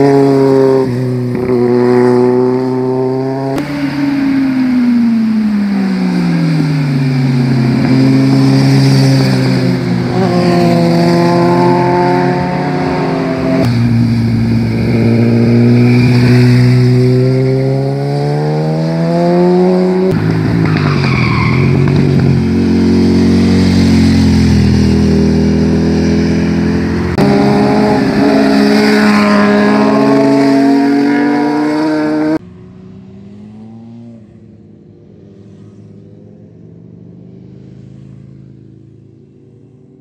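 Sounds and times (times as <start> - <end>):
motorcycle engines revving past: 0.0 - 21.1, 21.7 - 40.0.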